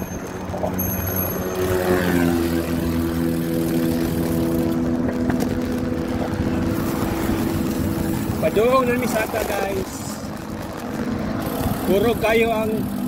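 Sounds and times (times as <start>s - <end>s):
low traffic rumble: 0.0s - 13.0s
vehicle engine running: 0.0s - 13.0s.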